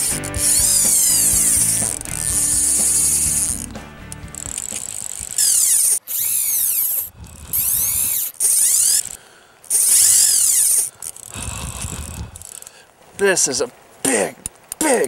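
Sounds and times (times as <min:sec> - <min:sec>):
fishing reel drag buzzing: 0:00.0 - 0:12.7.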